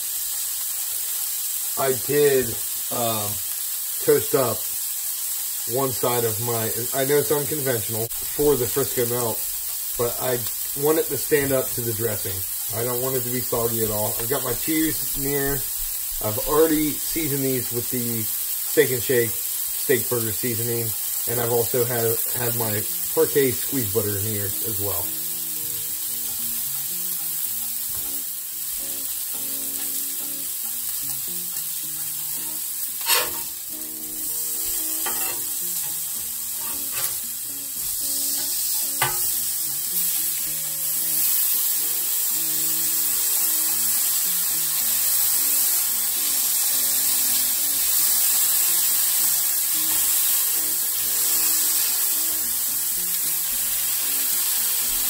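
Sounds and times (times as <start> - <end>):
patties sizzling on griddle: 0.0 - 55.0.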